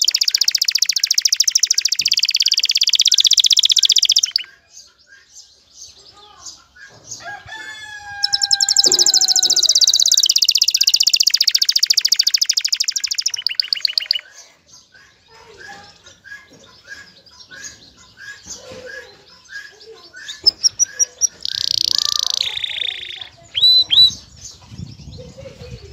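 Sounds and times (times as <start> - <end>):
canary singing: 0.0 - 25.8.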